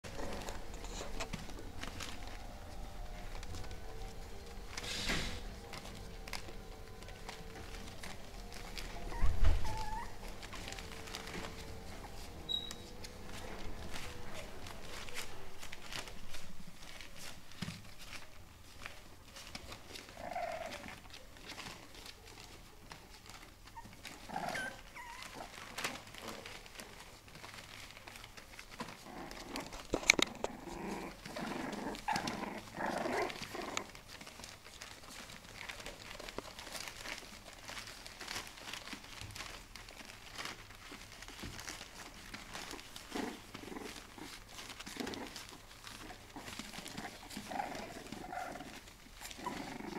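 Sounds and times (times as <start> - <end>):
newspaper crinkling and rustling: 0.0 - 49.9
puppies growling and yapping: 0.0 - 49.9.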